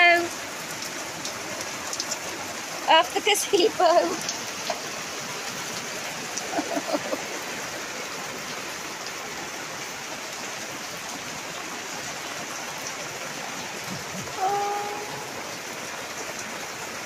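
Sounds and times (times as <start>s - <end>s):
heavy rain on paving: 0.0s - 17.0s.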